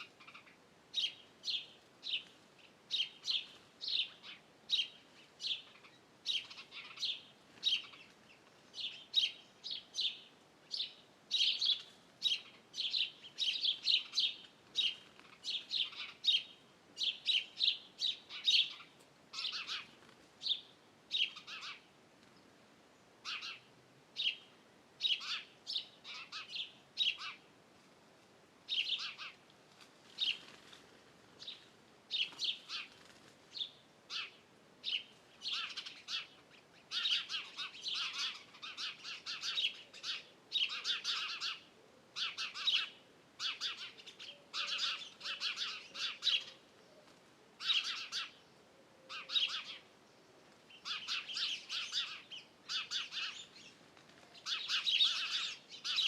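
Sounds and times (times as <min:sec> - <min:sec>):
wild birds chirping: 0:00.0 - 0:27.6, 0:28.6 - 0:56.0.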